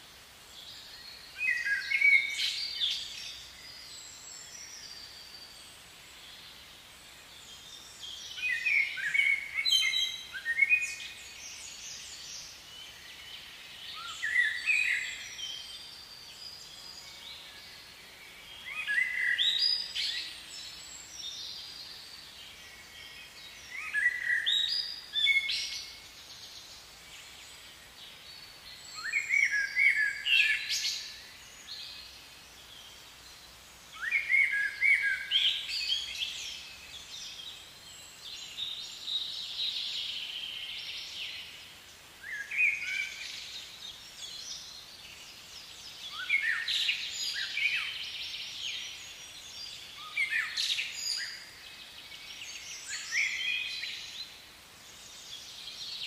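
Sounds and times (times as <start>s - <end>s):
faint background hiss: 0.0s - 56.0s
songbird chirping: 0.0s - 56.0s.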